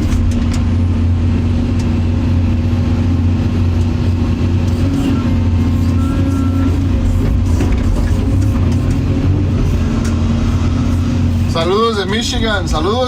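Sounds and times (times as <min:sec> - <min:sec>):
motor vehicle engine drone: 0:00.0 - 0:13.0.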